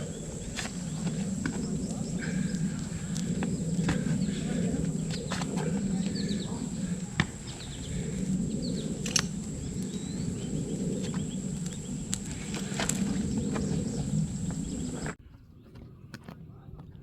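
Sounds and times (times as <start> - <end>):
low rushing noise: 0.0 - 15.2
thin high whine: 0.0 - 15.2
bird chirps: 0.0 - 15.7.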